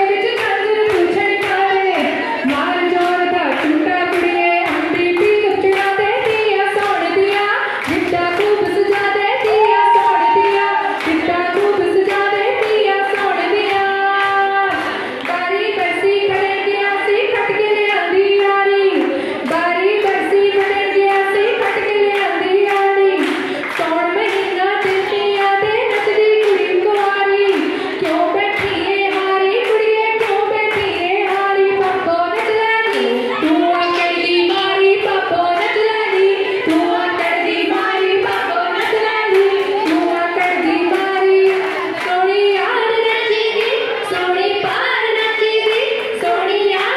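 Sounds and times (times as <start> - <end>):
rhythmic hand clapping: 0.0 - 46.9
women singing folk song: 0.0 - 46.9.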